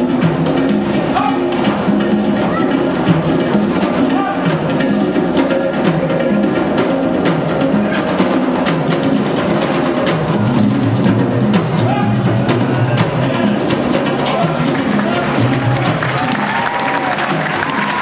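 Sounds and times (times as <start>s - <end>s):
drum-driven music: 0.0s - 18.0s.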